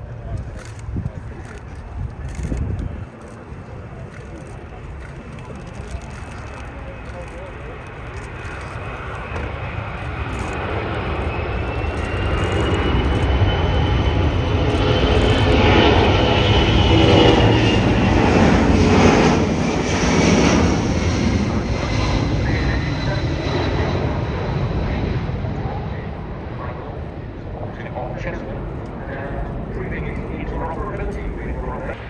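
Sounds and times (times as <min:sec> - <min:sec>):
military jet engines passing: 0:00.0 - 0:32.0.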